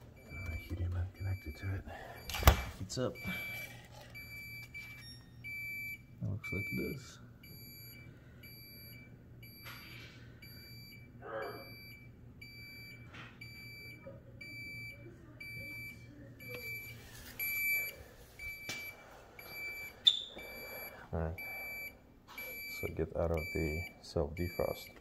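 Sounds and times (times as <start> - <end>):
faint low hum: 0.0 - 25.0
refrigerator beeping: 0.0 - 25.0.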